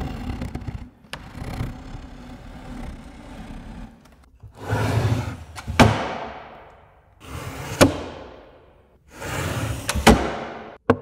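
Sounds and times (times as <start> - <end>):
wooden table sliding: 0.0 - 6.2, 7.2 - 8.4, 9.0 - 10.6.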